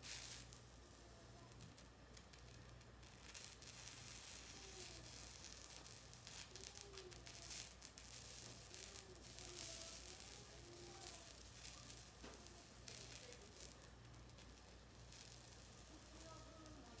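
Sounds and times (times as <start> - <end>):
oil sizzling on iron plate: 0.0 - 17.0.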